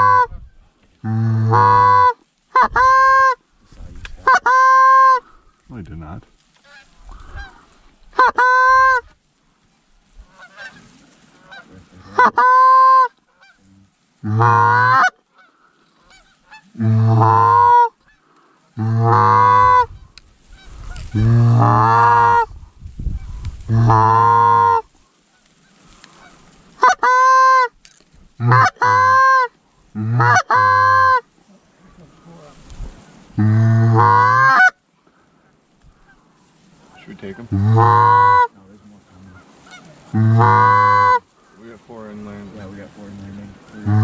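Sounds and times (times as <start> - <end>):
goose honking: 0.0 - 0.3, 1.0 - 3.4, 4.2 - 5.4, 6.5 - 22.5, 23.2 - 34.8, 36.8 - 44.0
longer lower goose calls: 0.0 - 5.7, 6.4 - 44.0.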